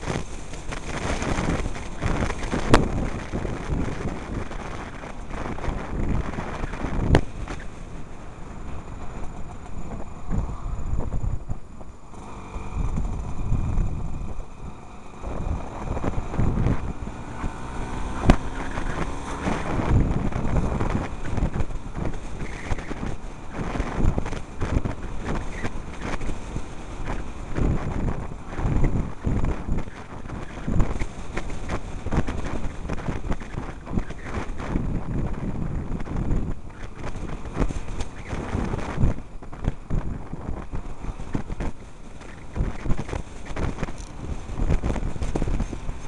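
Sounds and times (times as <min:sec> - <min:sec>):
road noise: 0:00.0 - 0:46.0
scooter engine: 0:00.0 - 0:46.0
wind buffeting microphone: 0:00.0 - 0:46.0.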